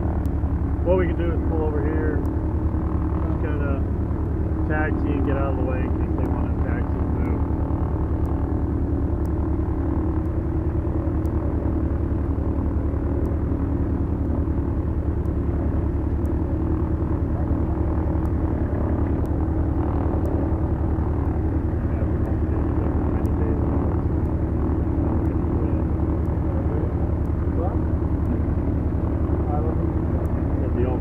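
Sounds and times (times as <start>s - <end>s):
twin propeller engines droning: 0.0s - 31.0s.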